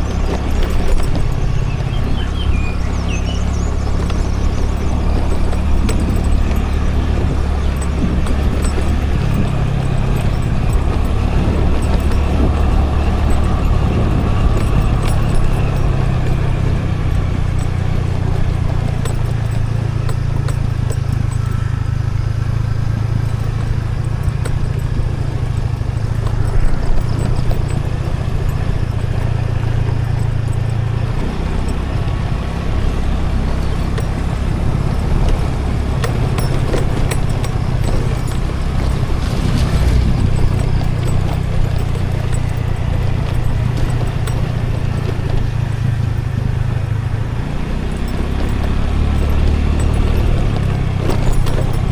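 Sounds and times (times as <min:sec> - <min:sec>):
road and wind noise: 0:00.0 - 0:51.9
scooter engine drone: 0:00.0 - 0:51.9.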